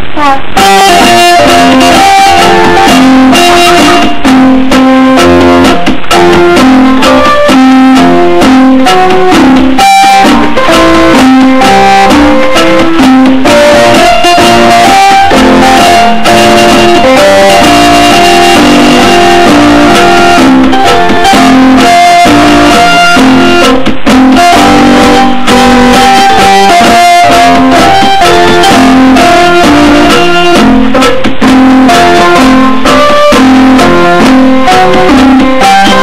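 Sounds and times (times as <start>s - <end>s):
electronic keyboard melody: 0.6s - 36.0s.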